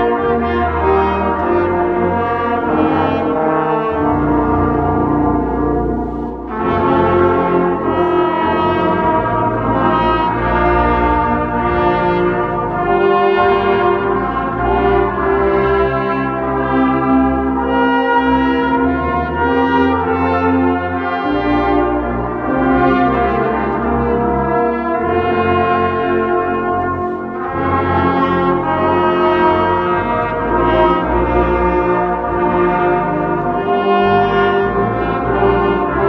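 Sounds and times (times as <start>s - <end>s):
brass ensemble playing chords: 0.0s - 36.0s.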